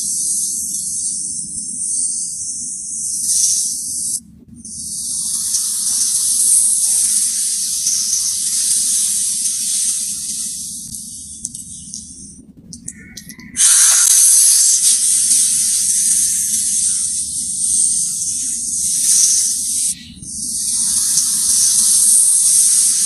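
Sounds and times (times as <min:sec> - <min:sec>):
low steady rumble: 0:00.1 - 0:23.0
snake hissing: 0:03.0 - 0:12.3, 0:13.4 - 0:23.0.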